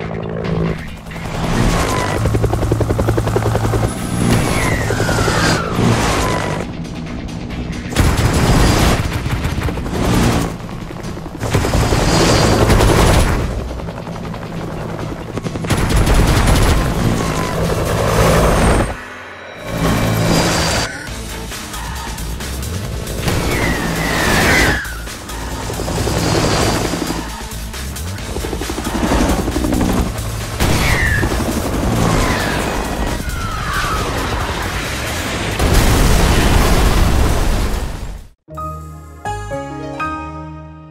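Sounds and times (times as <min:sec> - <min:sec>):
music: 0:00.0 - 0:35.1, 0:38.5 - 0:40.9
helicopter rotors chopping: 0:00.0 - 0:36.7.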